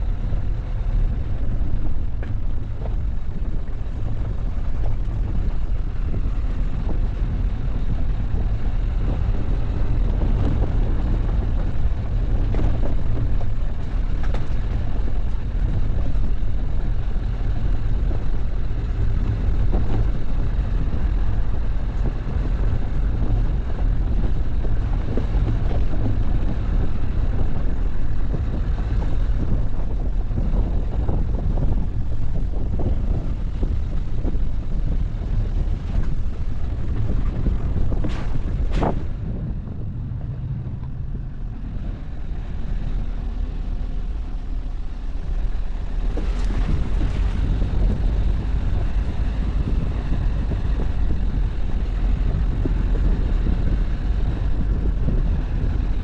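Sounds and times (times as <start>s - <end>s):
vehicle engine and tyres rumbling: 0.0s - 56.0s.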